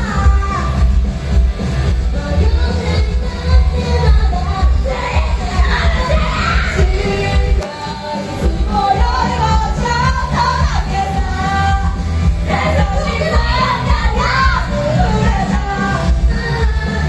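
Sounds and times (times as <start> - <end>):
live pop music with singing: 0.0 - 17.0.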